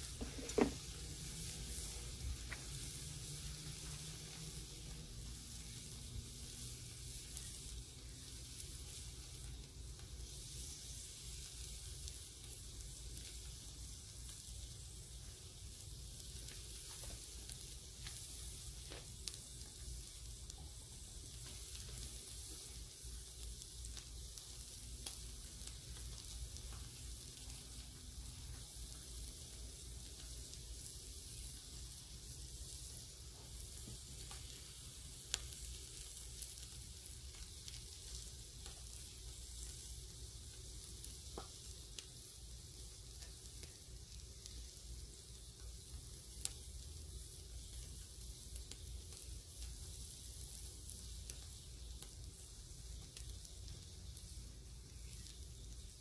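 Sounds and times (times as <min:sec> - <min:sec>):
fish sizzling on a grill: 0:00.0 - 0:56.0.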